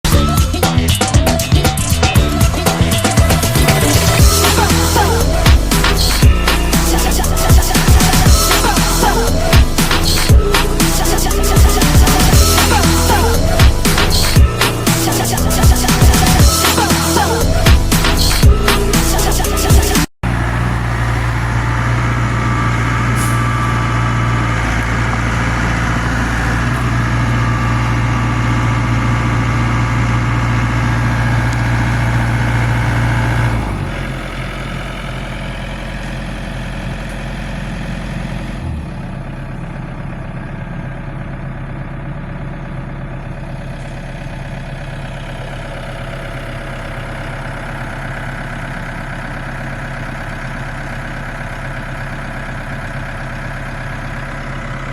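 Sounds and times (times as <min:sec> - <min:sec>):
excavator diesel engine: 0:00.0 - 0:54.9.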